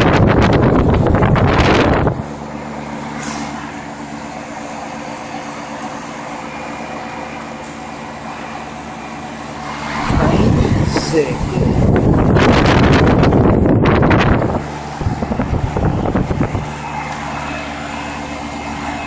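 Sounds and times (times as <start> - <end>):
compressor hum: 0.0 - 19.0
condenser fan whoosh: 0.0 - 19.0.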